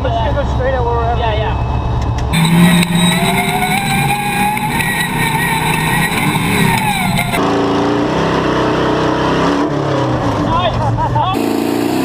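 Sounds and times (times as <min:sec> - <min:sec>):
truck engine revving: 0:02.3 - 0:12.0.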